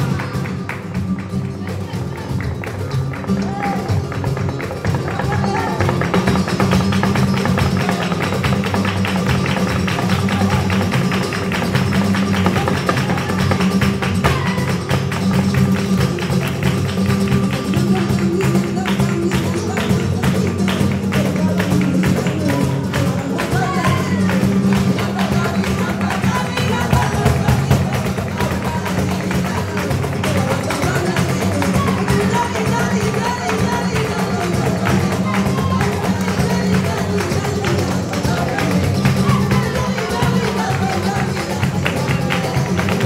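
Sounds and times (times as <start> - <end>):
acoustic guitars strumming: 0.0 - 43.0
hand clapping: 0.0 - 43.0
person singing: 1.5 - 43.0.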